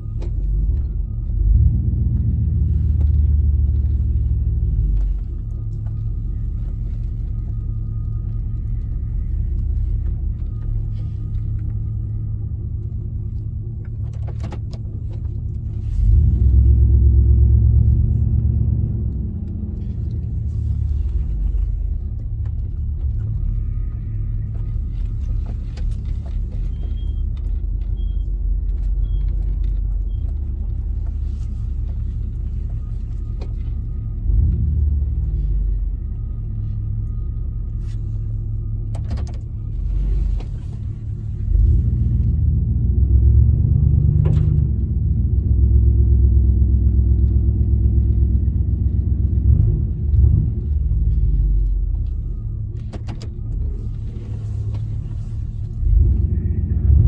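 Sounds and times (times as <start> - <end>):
deep exhaust rumble: 0.0 - 57.0.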